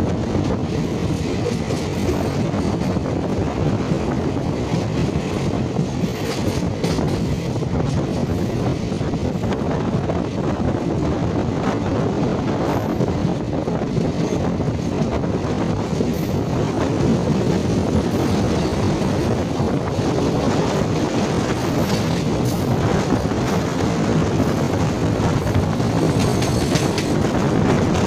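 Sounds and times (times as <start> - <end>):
train wheel and rail noise: 0.0 - 28.0
wind: 0.0 - 28.0.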